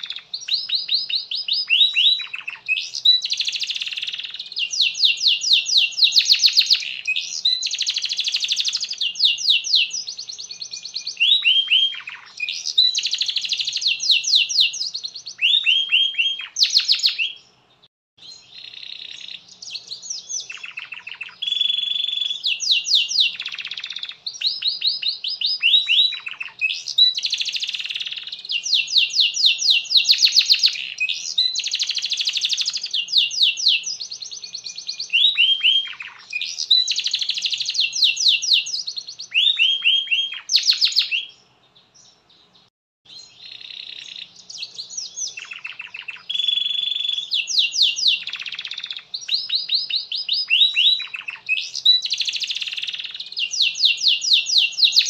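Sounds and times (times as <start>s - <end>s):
canary singing fast trills: 0.0s - 55.0s.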